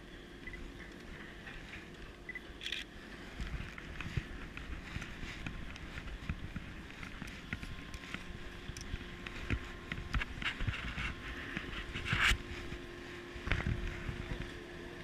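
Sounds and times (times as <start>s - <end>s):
machinery hum: 0.0s - 15.0s
footsteps: 0.5s - 14.6s.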